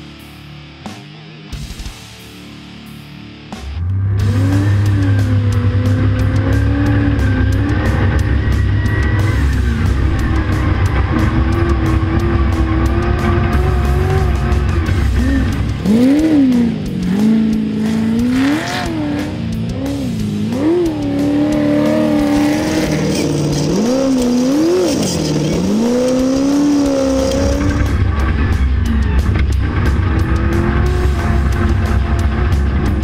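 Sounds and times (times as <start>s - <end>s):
background music with heavy bass: 0.0s - 33.0s
race car engine revving: 3.7s - 33.0s.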